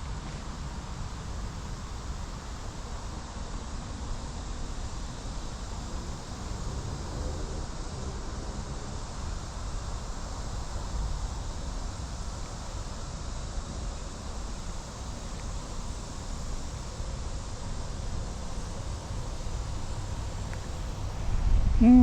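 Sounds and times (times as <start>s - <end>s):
wind rumble on microphone: 0.0s - 22.0s
high-pitched insect buzz: 0.1s - 22.0s.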